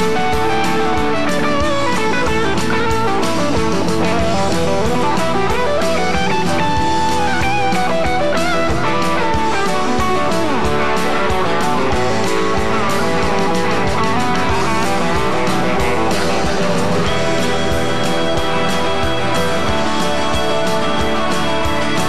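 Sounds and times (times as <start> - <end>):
drum beat: 0.0 - 22.0
live band music: 0.0 - 22.0.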